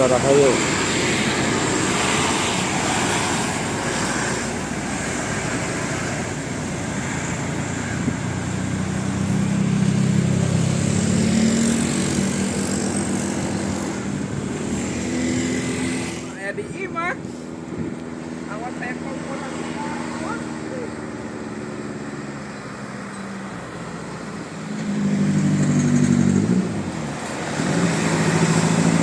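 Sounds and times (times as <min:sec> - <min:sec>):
bus diesel engine passing: 0:00.0 - 0:16.5, 0:17.1 - 0:29.0
road traffic: 0:00.0 - 0:29.0.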